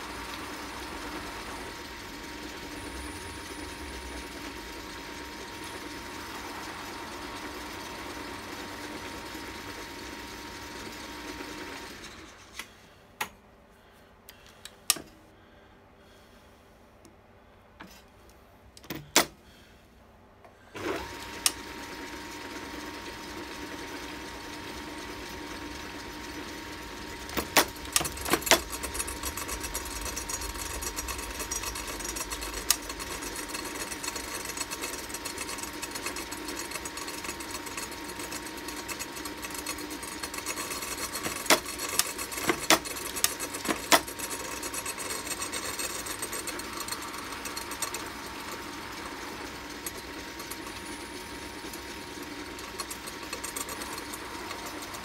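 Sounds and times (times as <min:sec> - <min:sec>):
lathe running with thin whine: 0:00.0 - 0:12.6, 0:20.8 - 0:55.0.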